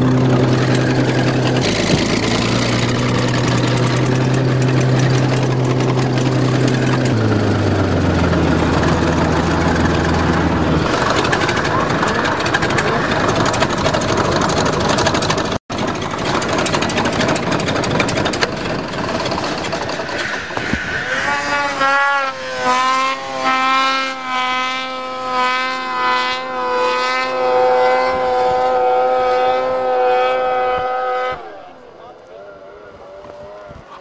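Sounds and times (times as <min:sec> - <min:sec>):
bulldozer diesel engine running: 0:00.0 - 0:33.8
snowmobile engine whine: 0:00.0 - 0:34.0.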